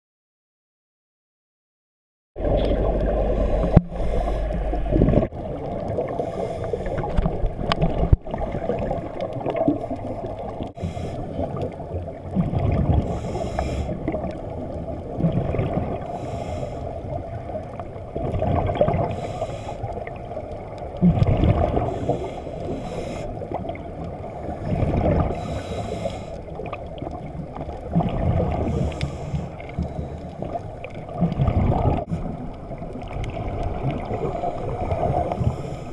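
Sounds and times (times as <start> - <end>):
bubbles gurgling underwater: 2.4 - 25.7, 26.4 - 35.9
muffled underwater wash: 2.4 - 35.9.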